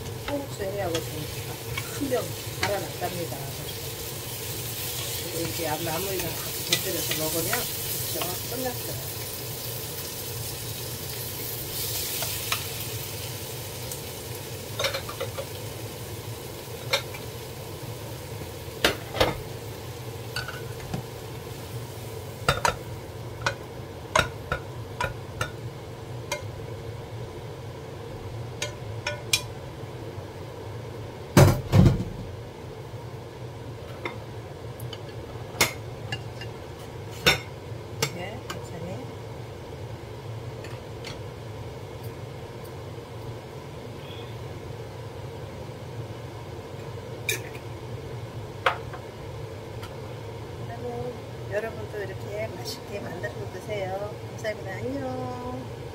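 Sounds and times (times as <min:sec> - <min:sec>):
low steady hum: 0:00.0 - 0:55.9
vegetables sizzling in a frying pan: 0:00.0 - 0:55.9.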